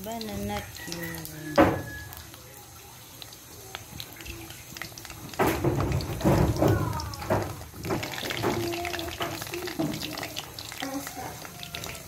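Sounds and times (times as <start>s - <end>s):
food sizzling and spitting in oil: 0.0s - 12.0s.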